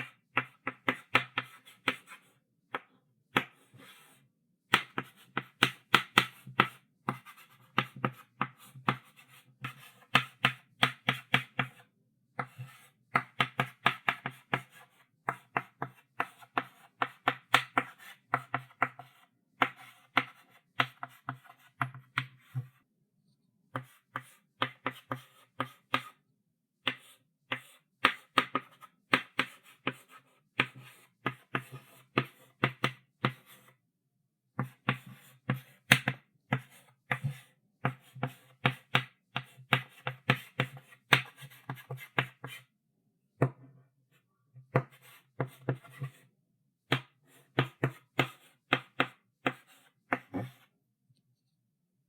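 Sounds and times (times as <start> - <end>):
chalk tapping and writing on chalkboard: 0.0 - 22.8, 23.7 - 26.2, 26.8 - 33.8, 34.6 - 42.7, 44.6 - 46.3, 46.9 - 50.7.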